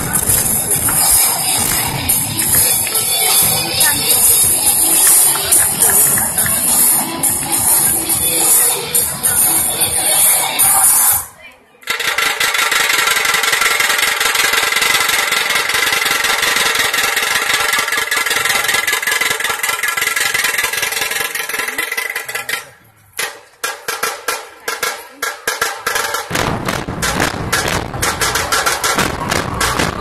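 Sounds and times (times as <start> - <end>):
dhol drums playing: 0.0 - 10.6, 12.8 - 22.6, 23.2 - 30.0.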